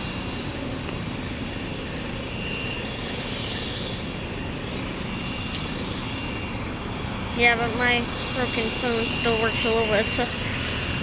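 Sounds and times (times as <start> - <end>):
helicopter turbine engine running: 0.0 - 11.0.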